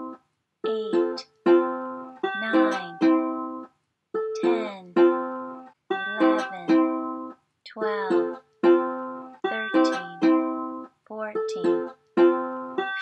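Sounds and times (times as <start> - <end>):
strummed string chords: 0.0 - 13.0.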